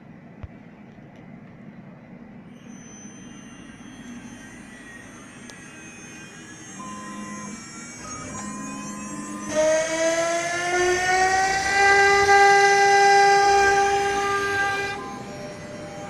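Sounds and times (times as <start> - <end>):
low machine hum: 0.0 - 16.0
high steady spindle whine: 1.4 - 16.0
steady motor tones: 2.4 - 16.0.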